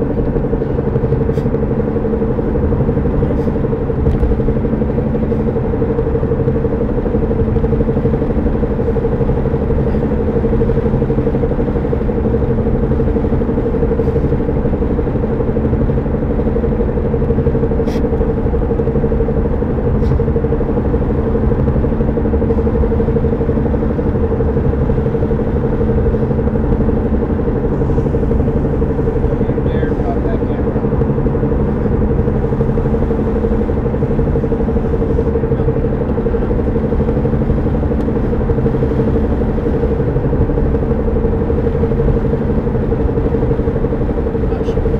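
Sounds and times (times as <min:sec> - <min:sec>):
vehicle driving: 0:00.0 - 0:44.9
wheel hum: 0:00.0 - 0:44.9.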